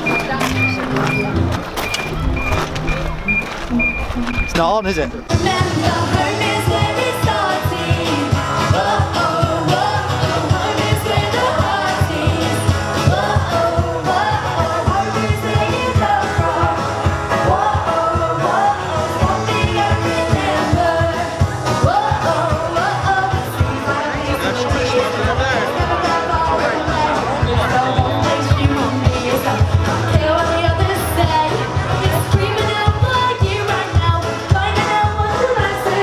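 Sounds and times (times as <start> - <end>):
pop music with singing: 0.0 - 36.0
steady drum beat: 0.0 - 36.0.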